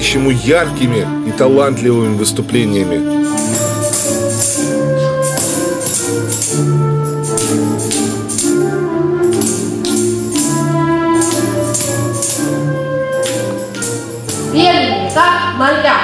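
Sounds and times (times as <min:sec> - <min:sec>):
tambourines jingling: 0:00.0 - 0:15.2
instrumental tune of sustained notes: 0:00.0 - 0:16.0.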